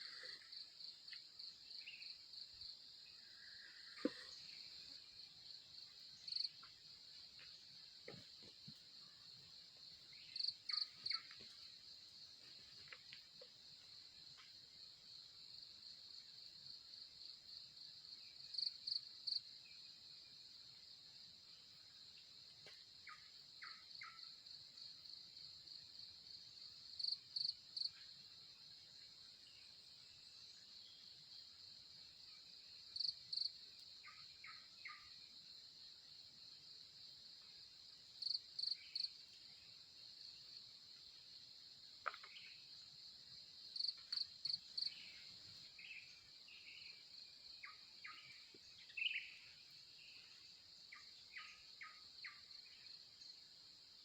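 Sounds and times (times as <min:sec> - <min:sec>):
crickets trilling: 0:00.0 - 0:19.5, 0:23.0 - 0:54.0.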